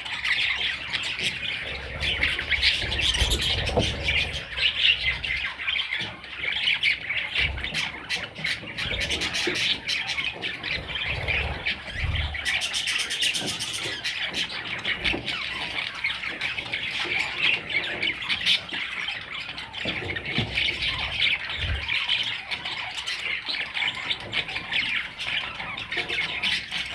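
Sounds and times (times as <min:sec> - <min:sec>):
budgerigars chattering: 0:00.0 - 0:26.9.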